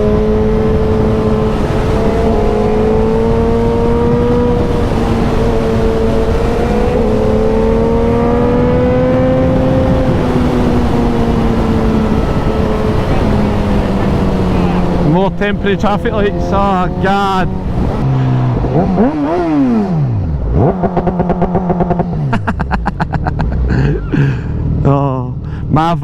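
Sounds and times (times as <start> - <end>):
wind noise: 0.0 - 24.3
motorcycle engine running: 0.0 - 25.7.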